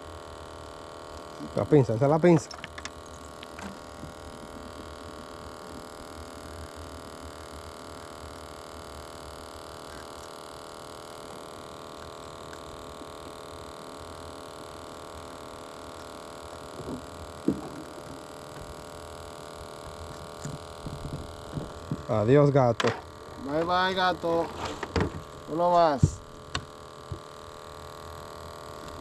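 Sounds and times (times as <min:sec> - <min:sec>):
steady motor hum: 0:00.0 - 0:29.0.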